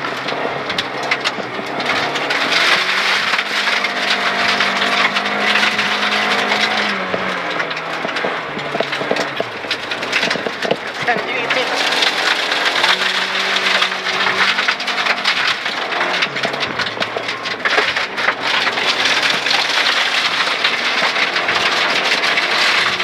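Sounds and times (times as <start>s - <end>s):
gravel rattling against car: 0.0s - 23.0s
rally car engine running hard: 0.0s - 23.0s.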